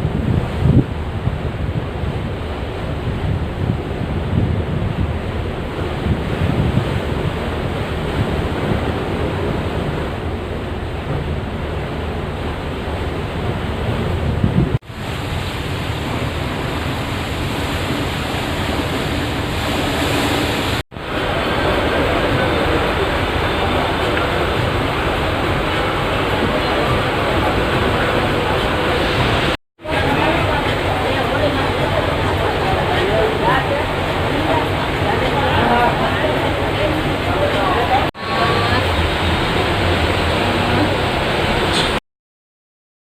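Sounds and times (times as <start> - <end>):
sea waves washing: 0.0 - 42.0
wind on microphone: 0.0 - 42.0.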